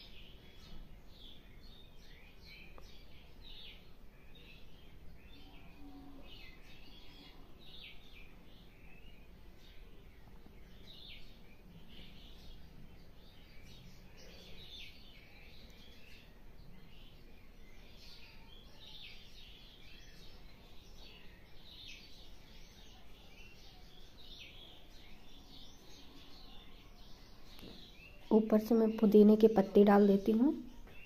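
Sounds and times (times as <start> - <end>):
faint birds chirping: 0.0 - 31.0.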